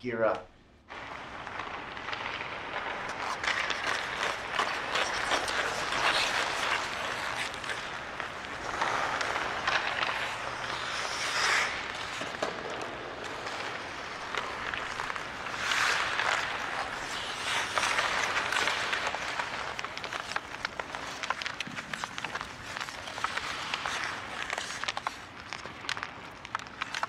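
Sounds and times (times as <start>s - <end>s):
skate blades scraping ice: 0.9s - 27.0s
stick clicking on pucks: 1.0s - 27.0s.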